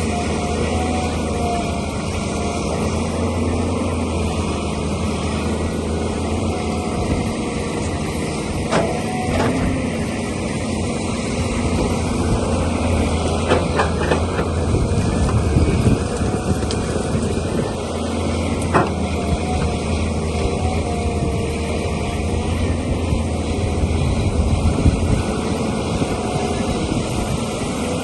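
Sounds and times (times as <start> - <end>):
heavy machinery engine droning: 0.0 - 28.0.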